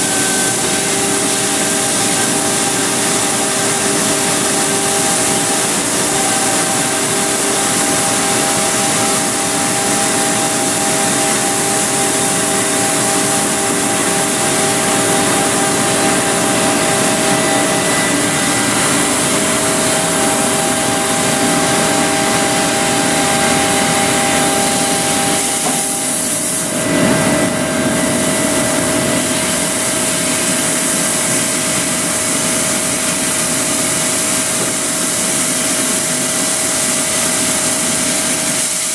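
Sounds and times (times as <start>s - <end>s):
laser cutter hissing: 0.0s - 38.9s
machine hum: 0.0s - 38.9s.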